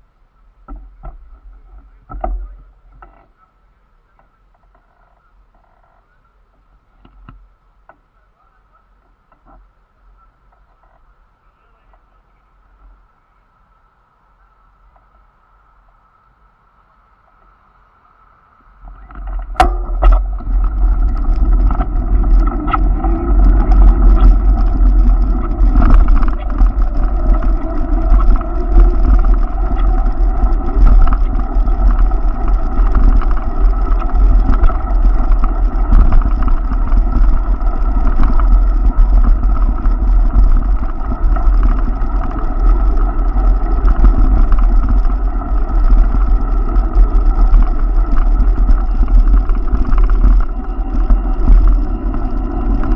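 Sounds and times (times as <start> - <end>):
bicycle rolling noise: 0.0 - 52.9
constant hum: 0.0 - 52.9
wind rumble on microphone: 0.0 - 52.9.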